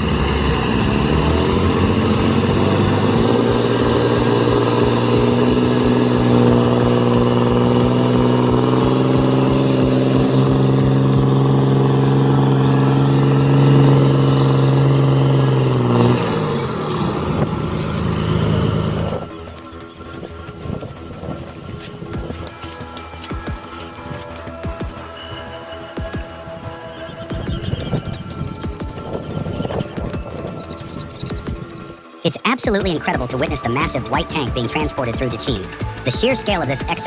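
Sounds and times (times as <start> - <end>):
engine revving high: 0.0 - 37.0.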